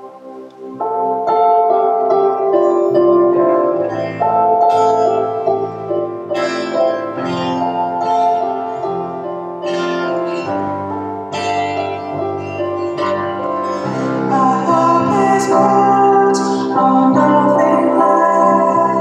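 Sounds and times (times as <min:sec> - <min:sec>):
slow plucked guitar music: 0:00.2 - 0:19.0.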